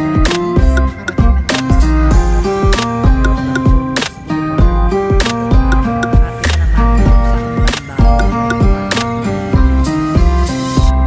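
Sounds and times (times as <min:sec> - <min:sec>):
held chords: 0:00.0 - 0:11.0
drum beat: 0:00.2 - 0:11.0.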